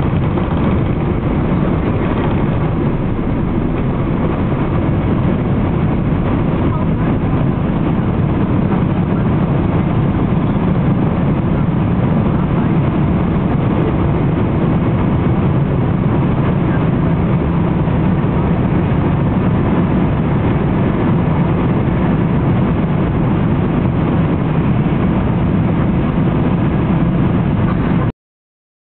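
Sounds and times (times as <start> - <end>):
rushing air: 0.0 - 28.0
jet engines rumbling: 0.0 - 28.1.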